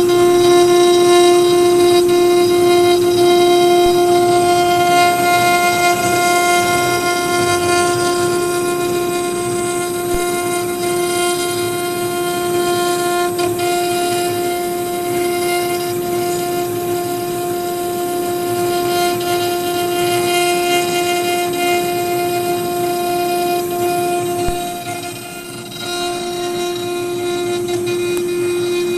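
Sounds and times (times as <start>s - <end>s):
cutter hissing through wood: 0.0s - 28.9s
router spindle whining: 0.0s - 28.9s.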